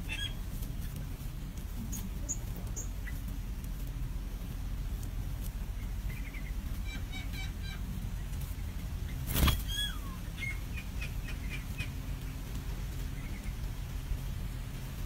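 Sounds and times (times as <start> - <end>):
nestlings peeping: 0.0 - 15.0.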